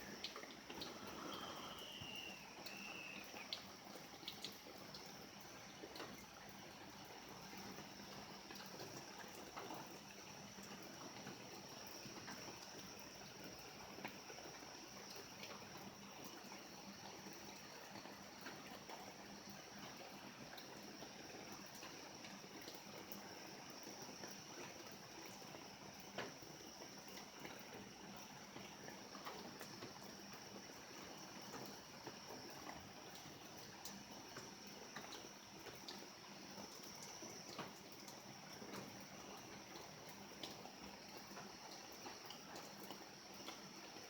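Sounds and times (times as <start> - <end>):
faint rain: 0.0 - 44.0
water trickling and dripping: 0.0 - 44.0.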